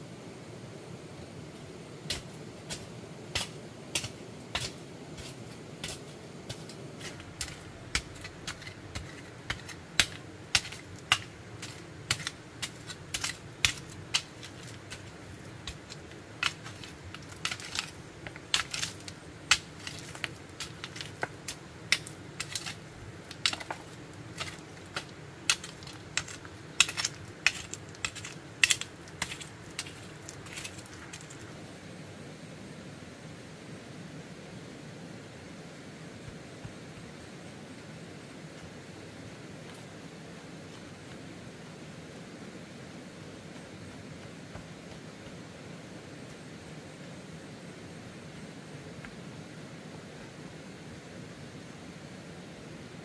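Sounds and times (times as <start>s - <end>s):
low steady hiss: 0.0s - 53.0s.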